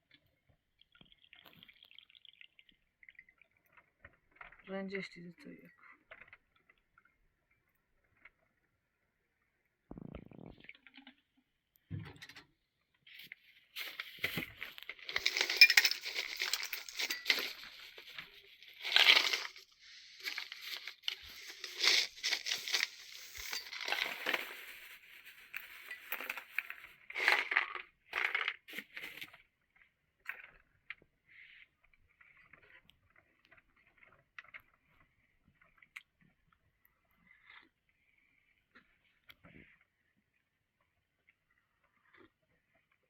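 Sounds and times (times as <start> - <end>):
objects crinkling and clinking: 0.0 - 8.8, 9.9 - 12.4, 13.0 - 37.7.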